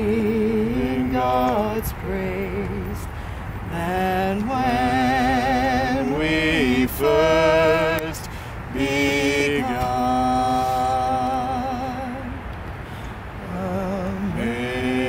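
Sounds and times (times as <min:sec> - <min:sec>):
woman singing a hymn: 0:00.0 - 0:12.5, 0:13.4 - 0:15.0.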